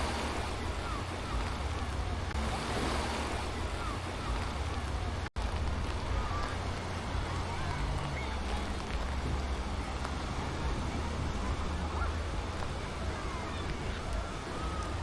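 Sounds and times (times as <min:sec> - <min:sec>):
distant voices: 0:00.0 - 0:15.0
surf washing on shore: 0:00.0 - 0:15.0
wind rumbling on microphone: 0:00.0 - 0:15.0.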